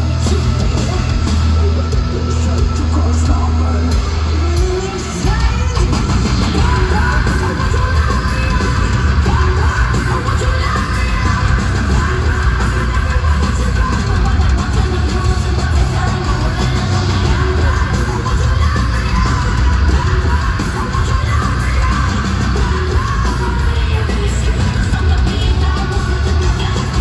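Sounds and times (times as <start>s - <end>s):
live heavy metal band: 0.0s - 27.0s
person yelling and singing: 0.0s - 27.0s.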